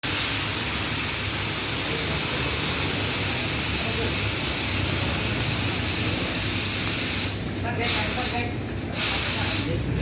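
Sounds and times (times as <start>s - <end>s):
pressure washer jet hissing: 0.0s - 10.0s.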